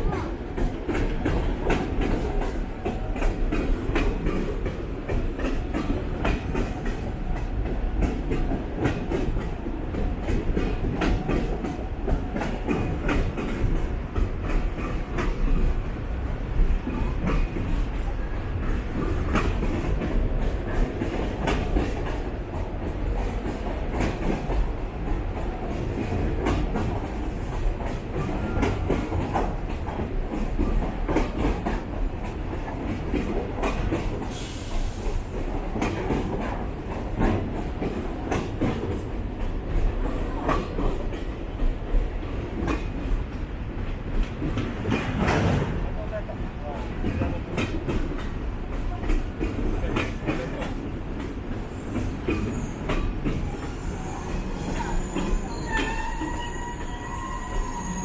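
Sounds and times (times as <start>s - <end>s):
train wheels clacking on rail joints: 0.0s - 46.1s, 46.8s - 58.0s
train rumble: 0.0s - 58.0s.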